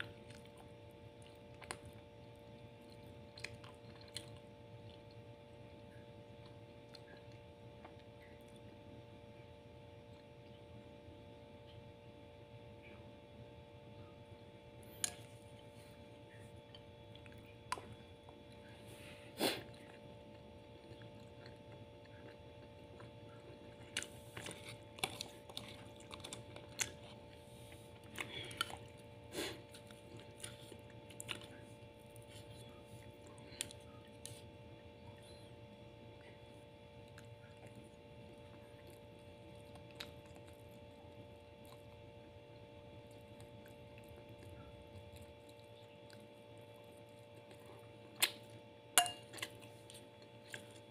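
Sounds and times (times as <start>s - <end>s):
chewing: 0.0s - 8.7s, 14.8s - 35.6s, 36.2s - 50.9s
faint steady hum: 0.0s - 50.9s.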